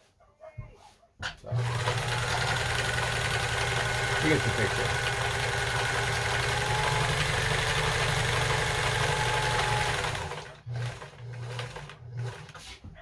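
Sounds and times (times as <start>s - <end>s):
sewing machine stitching fabric: 1.4s - 12.8s.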